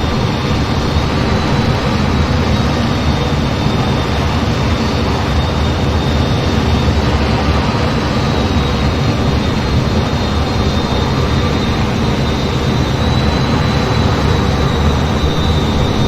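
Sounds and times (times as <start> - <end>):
high-pitched whine: 0.0 - 16.0
jet engines running: 0.0 - 16.0.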